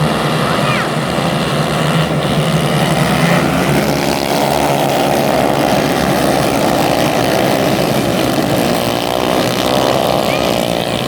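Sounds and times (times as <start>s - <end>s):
racing kart engines droning: 0.0s - 11.0s.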